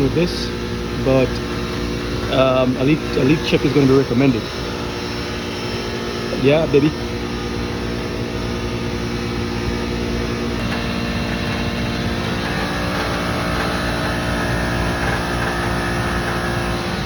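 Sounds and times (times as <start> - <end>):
compressor humming: 0.0 - 17.0
high machine whine: 0.0 - 17.0.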